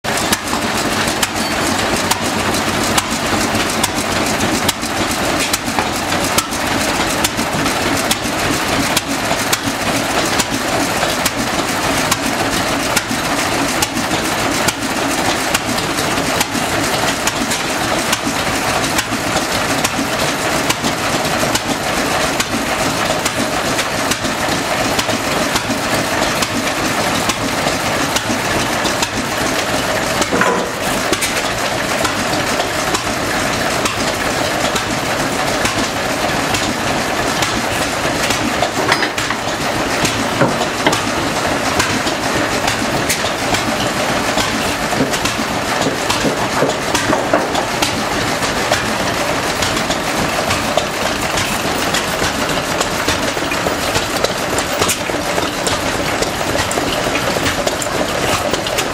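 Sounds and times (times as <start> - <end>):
stationary engines running: 0.1 - 58.9.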